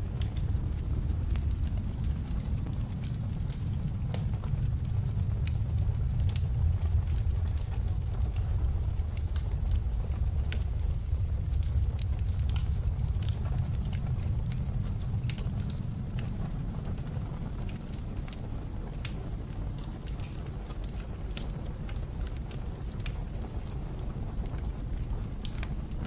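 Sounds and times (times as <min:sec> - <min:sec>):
blizzard wind rumble: 0:00.0 - 0:26.0
wood fire crackling and popping: 0:00.0 - 0:26.0.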